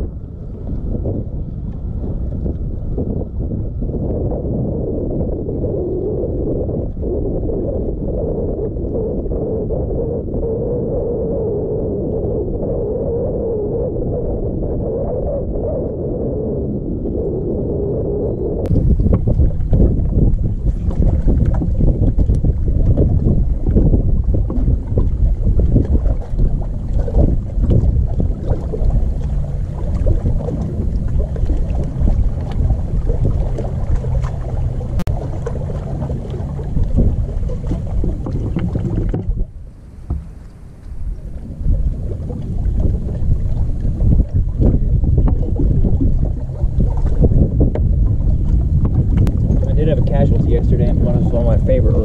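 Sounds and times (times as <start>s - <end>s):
water slapping boat hull: 0.0s - 52.0s
wind buffeting microphone: 0.0s - 52.0s.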